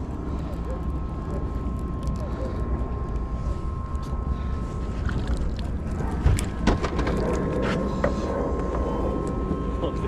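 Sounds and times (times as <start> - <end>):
wind rumble: 0.0 - 10.0.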